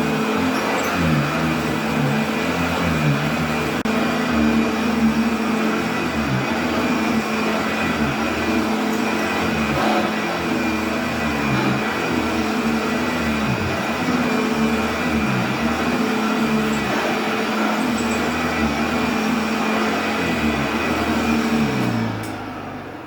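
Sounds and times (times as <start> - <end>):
upright vacuum cleaner running: 0.0 - 23.0.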